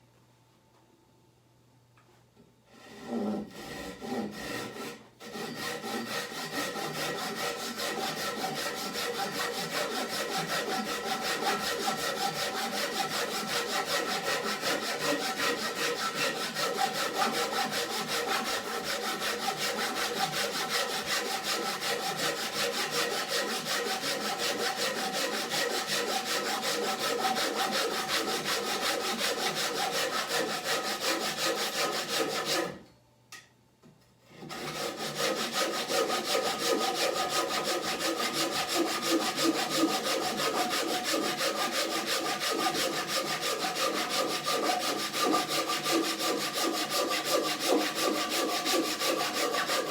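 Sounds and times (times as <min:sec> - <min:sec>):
pull saw cutting wood: 0:02.8 - 0:32.8, 0:34.4 - 0:49.9.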